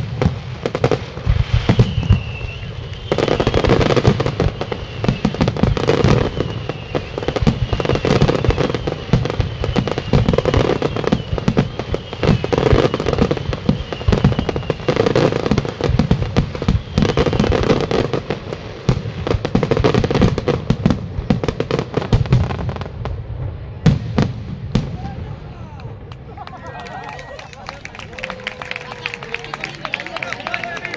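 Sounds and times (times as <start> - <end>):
fireworks bursting: 0.0 - 26.4.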